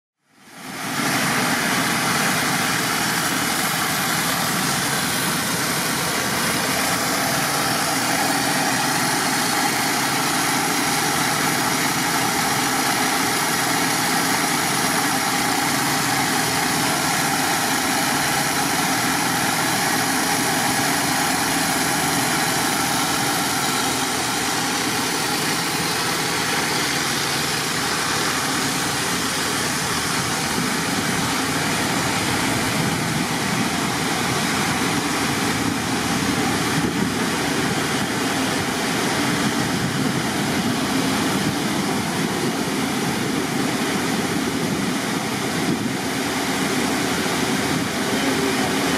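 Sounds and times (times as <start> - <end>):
engine-driven pump running: 0.2 - 48.9.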